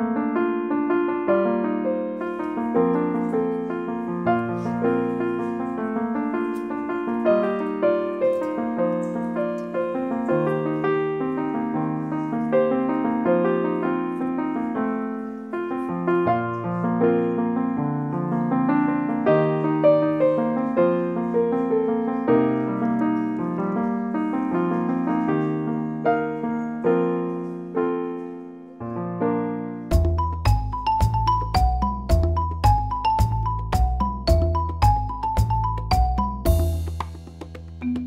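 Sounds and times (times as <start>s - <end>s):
piano piece: 0.0s - 38.0s.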